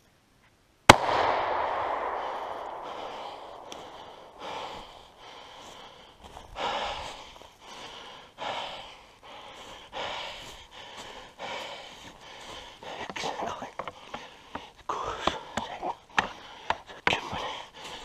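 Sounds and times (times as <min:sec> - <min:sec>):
moose snorting breaths: 0:02.2 - 0:18.0.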